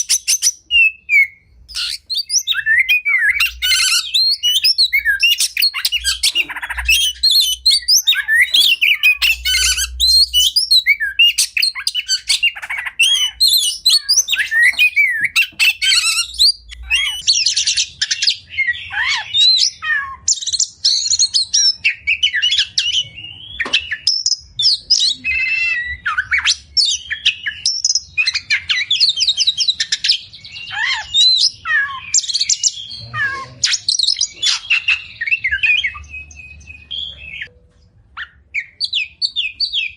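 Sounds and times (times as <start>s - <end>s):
bird singing whistles and trills: 0.0s - 37.6s, 38.2s - 39.9s.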